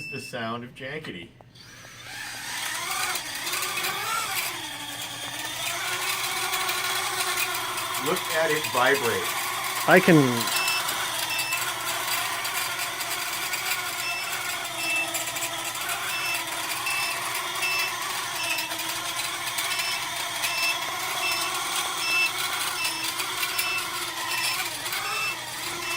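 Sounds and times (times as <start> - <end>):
drone motor whirring: 1.5 - 25.9.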